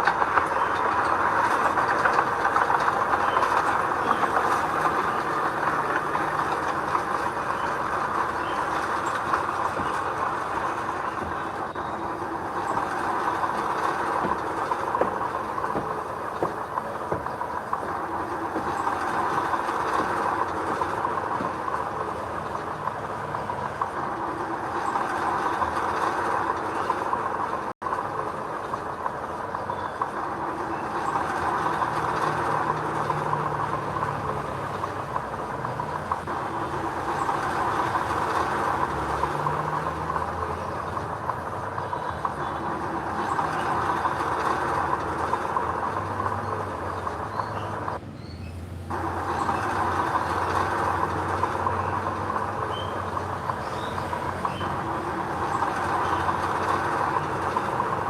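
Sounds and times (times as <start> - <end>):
earthmoving machinery diesel engine: 0.0 - 58.0.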